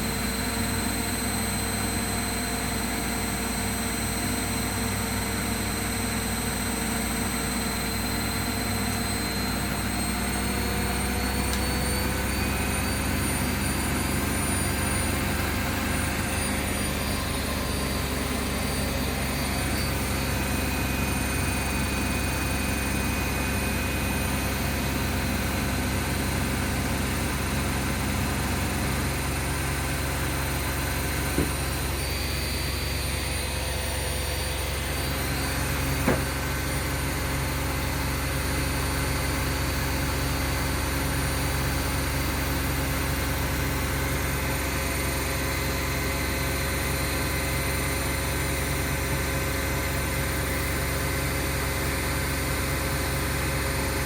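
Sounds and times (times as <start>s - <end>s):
washing machines spinning: 0.0s - 54.0s.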